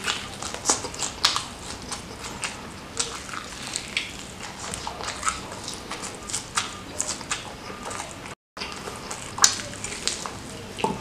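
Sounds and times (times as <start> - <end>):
chewing with mouth clicks: 0.0 - 11.0
lip smacks: 0.0 - 11.0.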